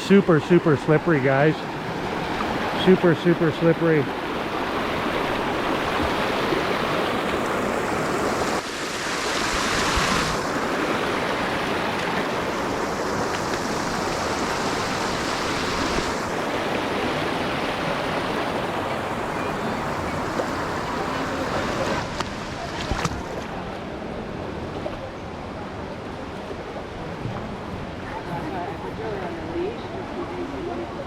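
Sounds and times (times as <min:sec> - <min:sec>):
river water rushing over rocks: 0:00.0 - 0:31.0.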